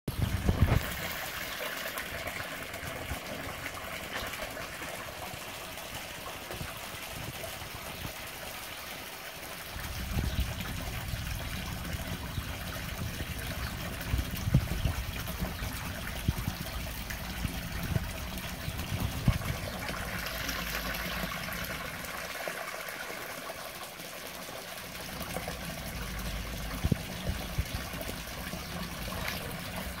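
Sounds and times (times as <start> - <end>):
water pouring and splashing: 0.1 - 30.0.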